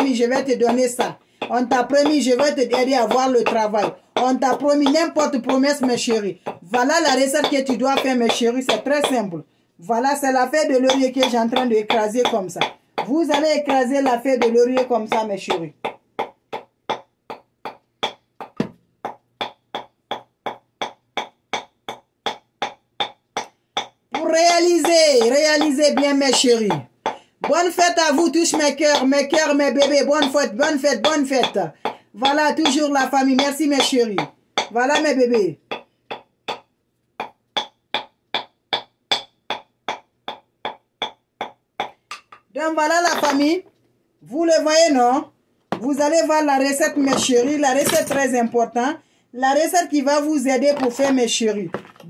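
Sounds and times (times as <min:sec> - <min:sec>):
wooden pestle pounding: 0:00.0 - 0:09.3, 0:09.9 - 0:43.7, 0:45.7 - 0:48.8, 0:50.6 - 0:52.0.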